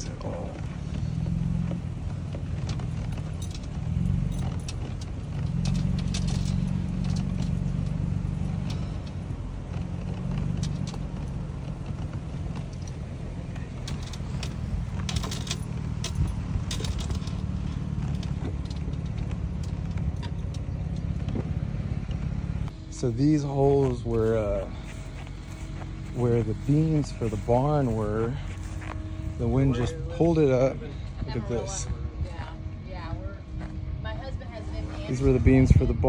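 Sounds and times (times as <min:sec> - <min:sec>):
engine and road drone: 0:00.0 - 0:36.0.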